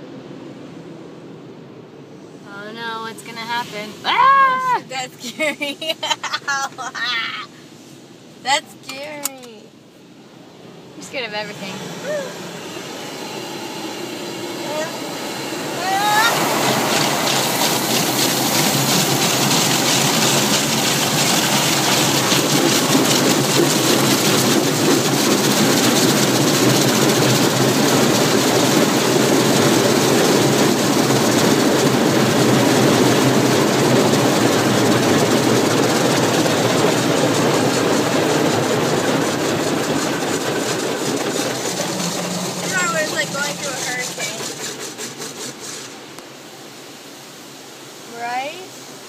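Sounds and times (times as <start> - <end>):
car wash water spray and machinery: 0.0 - 49.0.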